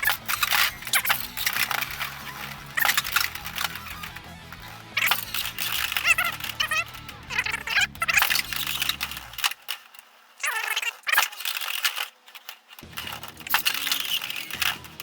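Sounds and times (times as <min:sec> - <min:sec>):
spinning tops clashing: 0:00.0 - 0:15.0.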